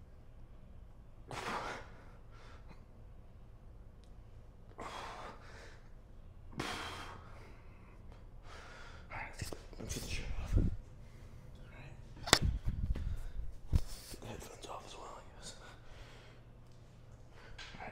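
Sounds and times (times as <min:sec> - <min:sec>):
low room hum: 0:00.0 - 0:17.9.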